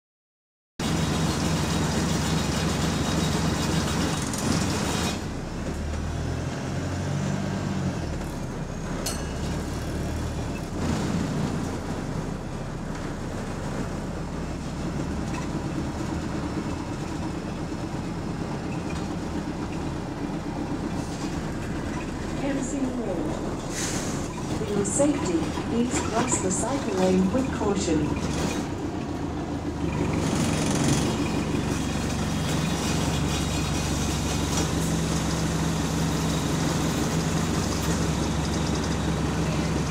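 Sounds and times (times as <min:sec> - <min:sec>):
bus engine running: 0:00.8 - 0:39.9.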